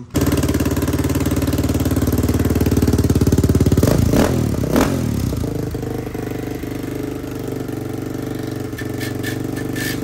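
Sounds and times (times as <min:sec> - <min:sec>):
engine revving: 0:00.0 - 0:10.0
motorcycle engine running: 0:00.0 - 0:10.0.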